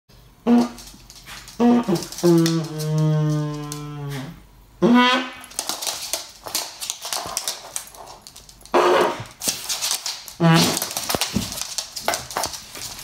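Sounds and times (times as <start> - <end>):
claws scrabbling on wooden floor: 0.6 - 3.9, 5.4 - 13.0.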